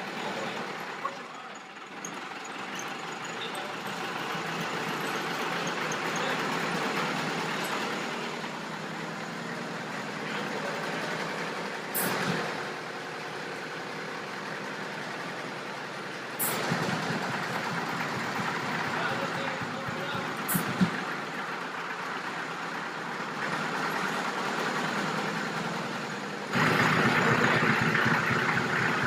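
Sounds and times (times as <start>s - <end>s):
engine and air compressor running: 0.0s - 29.0s.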